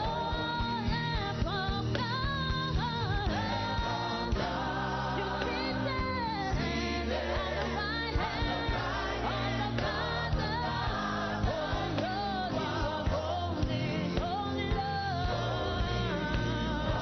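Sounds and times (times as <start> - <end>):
band with sustained bass: 0.0 - 17.0.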